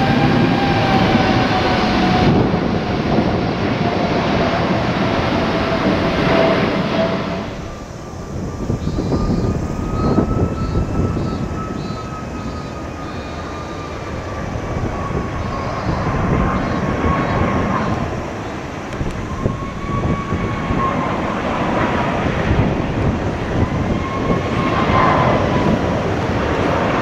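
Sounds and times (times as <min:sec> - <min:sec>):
jet engines rumbling with whine: 0:00.0 - 0:27.0.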